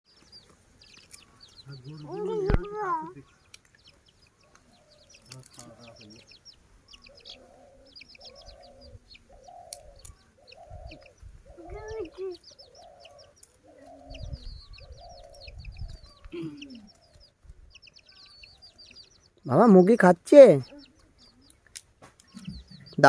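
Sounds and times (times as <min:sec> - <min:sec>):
small birds chirping: 0:00.0 - 0:23.0
chickens clucking: 0:00.1 - 0:23.0.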